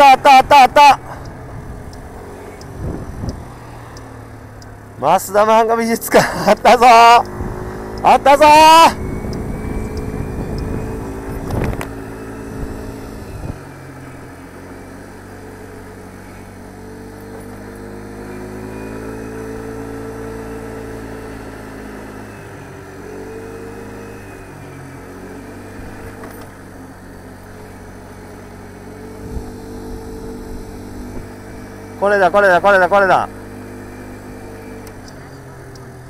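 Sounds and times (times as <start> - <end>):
moped engine running: 0.0 - 36.0.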